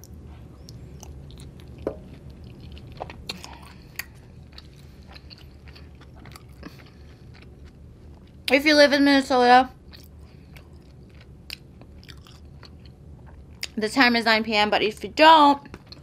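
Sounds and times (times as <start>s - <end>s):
person chewing food: 0.0s - 8.5s, 9.8s - 13.8s, 15.6s - 16.0s.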